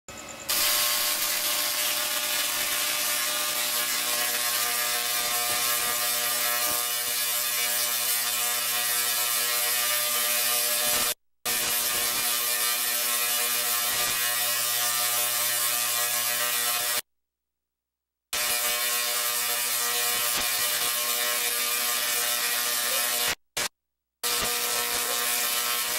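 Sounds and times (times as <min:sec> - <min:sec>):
electric sparks buzzing crackle: 0:00.4 - 0:17.1, 0:18.4 - 0:25.9.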